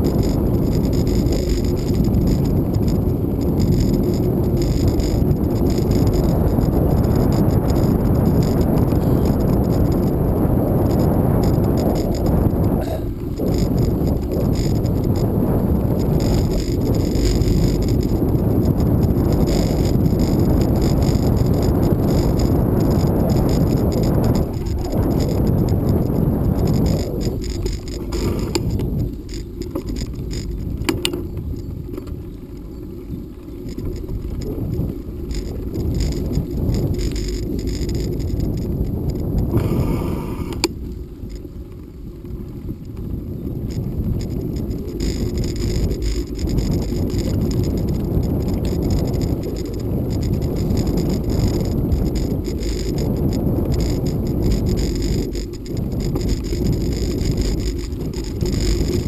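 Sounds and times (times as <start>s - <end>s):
bike rattling over bumps: 0.0s - 59.0s
tyres rumbling on dirt: 0.0s - 59.0s
wind on microphone: 0.0s - 59.0s.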